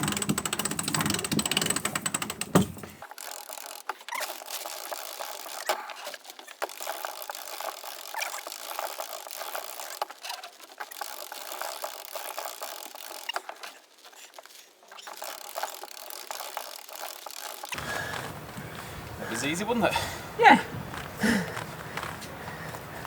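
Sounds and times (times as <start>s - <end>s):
winch pawls clicking: 0.0s - 20.2s.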